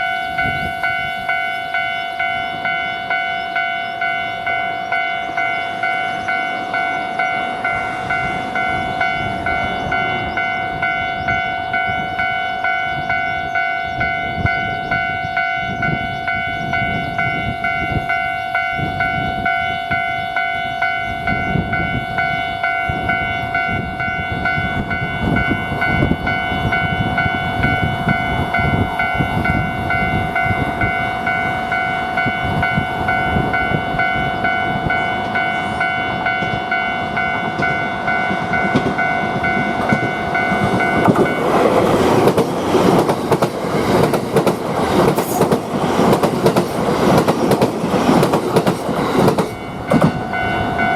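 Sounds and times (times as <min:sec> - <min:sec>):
railroad crossing bell ringing: 0:00.0 - 0:50.9
train rumbling past: 0:00.0 - 0:50.9.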